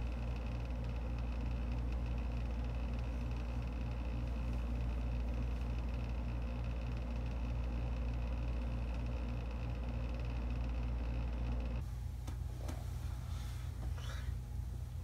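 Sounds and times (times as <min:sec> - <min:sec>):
low droning hum with hiss: 0:00.0 - 0:15.0.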